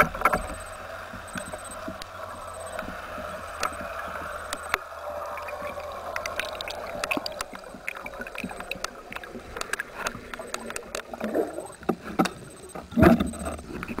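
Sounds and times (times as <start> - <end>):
bubbles gurgling: 0.0 - 14.0
sharp underwater clicks: 0.0 - 14.0
underwater background: 0.0 - 14.0.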